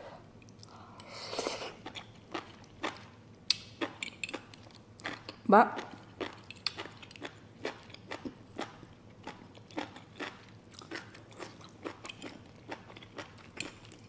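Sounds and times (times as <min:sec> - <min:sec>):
wet chewing of noodles: 0:00.4 - 0:14.0.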